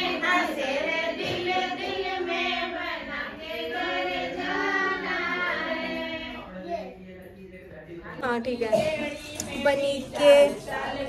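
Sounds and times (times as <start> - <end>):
women singing folk song: 0.0 - 6.5, 8.3 - 11.0.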